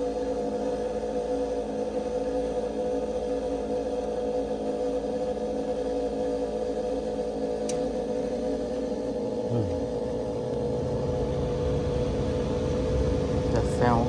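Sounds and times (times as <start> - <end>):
deep steady hum: 0.0 - 14.0
furnace motor humming: 0.0 - 14.0.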